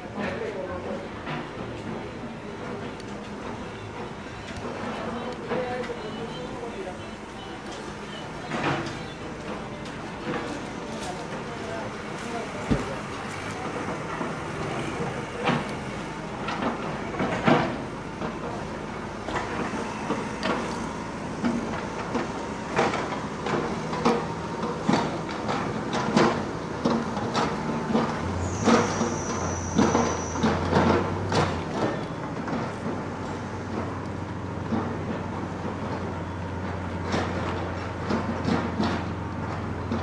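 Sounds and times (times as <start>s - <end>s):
street ambience: 0.0s - 40.0s.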